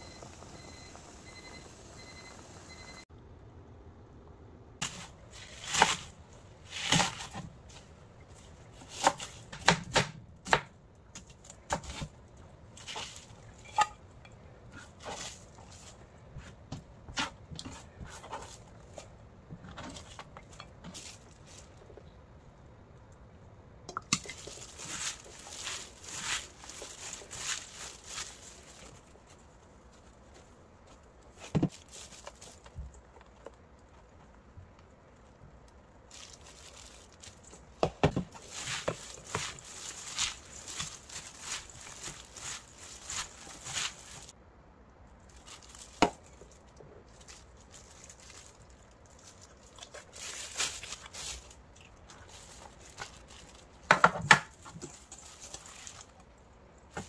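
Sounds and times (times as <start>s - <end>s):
rustling and scraping: 4.8s - 9.6s, 11.2s - 22.4s, 24.0s - 44.4s, 45.1s - 57.0s.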